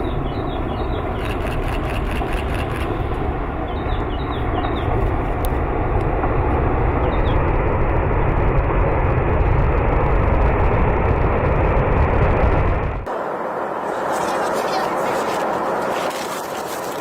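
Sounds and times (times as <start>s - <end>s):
rumble of mass sliding down mountain: 0.0s - 17.0s.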